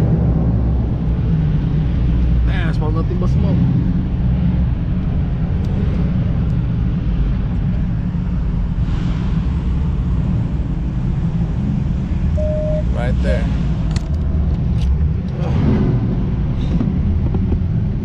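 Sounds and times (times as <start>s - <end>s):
car engine and exhaust rumble: 0.0s - 18.0s.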